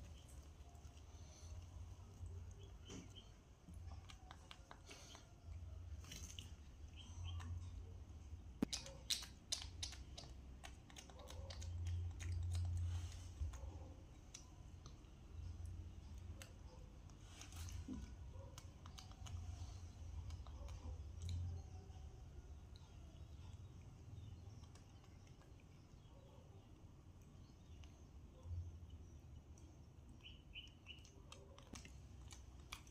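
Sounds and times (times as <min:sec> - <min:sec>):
chewing: 0:00.0 - 0:07.9, 0:08.6 - 0:21.7, 0:22.6 - 0:26.4, 0:29.5 - 0:32.9.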